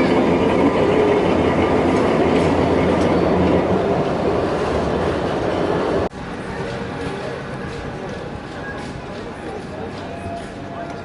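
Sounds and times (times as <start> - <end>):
train running on rails: 0.0 - 11.0.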